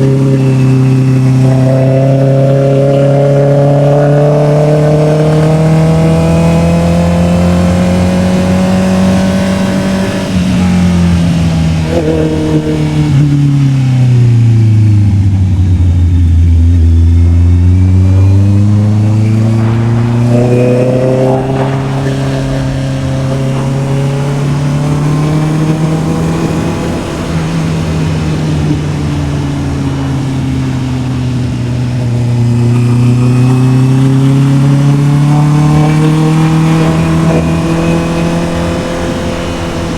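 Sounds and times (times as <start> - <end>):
motorcycle engine exhaust note: 0.0 - 39.9.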